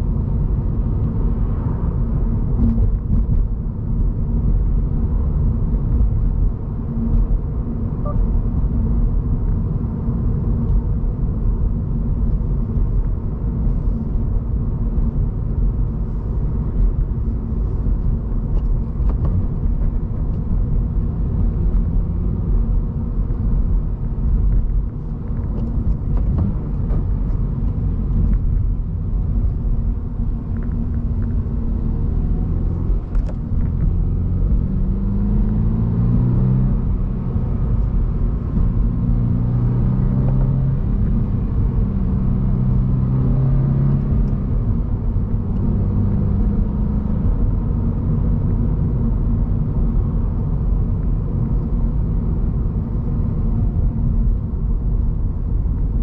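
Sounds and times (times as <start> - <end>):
car engine droning: 0.0 - 56.0
tyre and road noise: 0.0 - 56.0.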